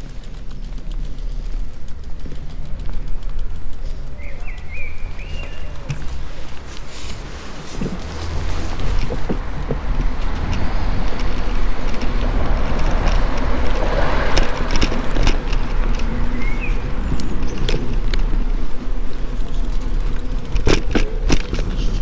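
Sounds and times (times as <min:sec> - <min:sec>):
bicycle tyres rumbling on pavement: 0:00.0 - 0:22.0
bike rattling clicks: 0:00.0 - 0:22.0.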